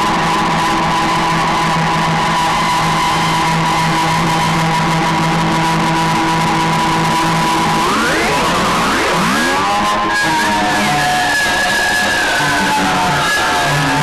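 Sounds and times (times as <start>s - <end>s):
held drones: 0.0s - 14.0s.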